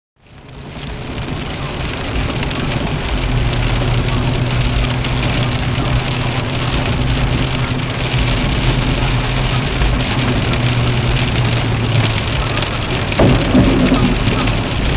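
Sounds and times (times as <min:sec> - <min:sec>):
sleet and rain on car roof: 0:00.2 - 0:14.9
car engine idling: 0:01.2 - 0:14.9.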